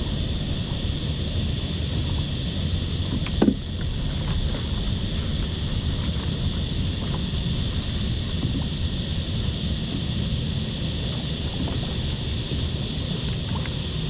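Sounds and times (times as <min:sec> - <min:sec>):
wind and water rumble: 0:00.0 - 0:14.0.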